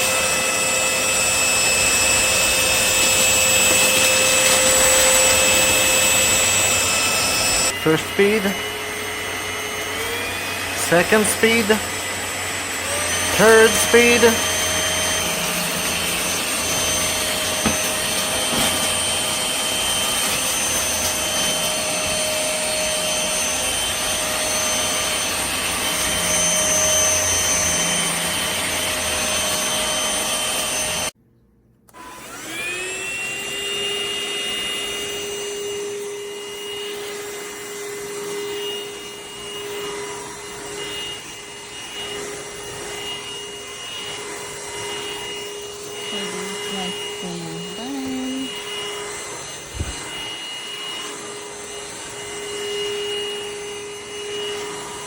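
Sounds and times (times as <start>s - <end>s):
vacuum cleaner motor whine: 0.0s - 31.2s, 31.9s - 55.0s.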